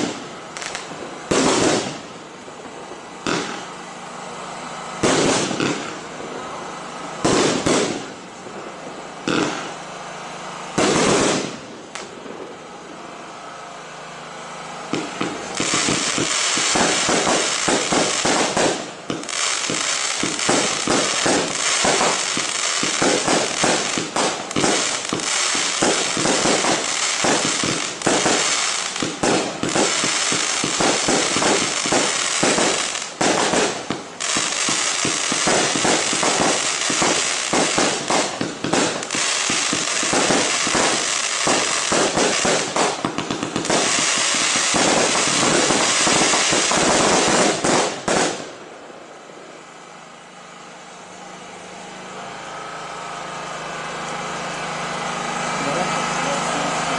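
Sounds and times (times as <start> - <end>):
firework cake firing: 0.0 - 49.3
steady hiss: 0.0 - 56.9.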